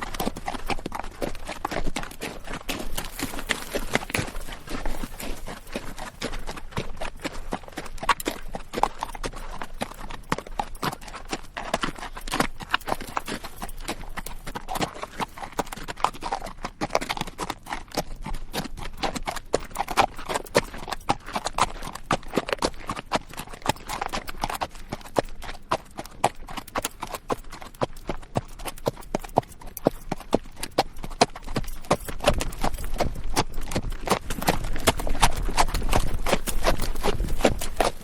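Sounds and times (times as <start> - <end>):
horse hooves on rocky dirt: 0.0 - 38.0.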